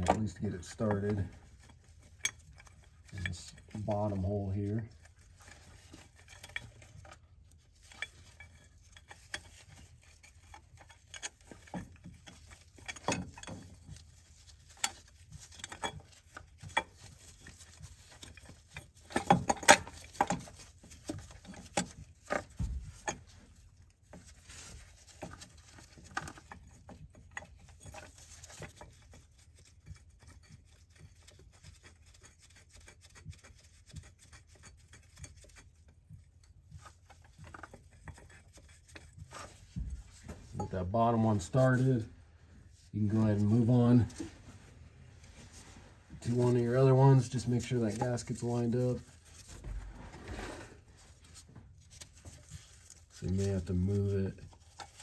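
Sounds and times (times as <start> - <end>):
small metallic clicks and scrapes: 0.0 - 42.1, 45.2 - 55.0.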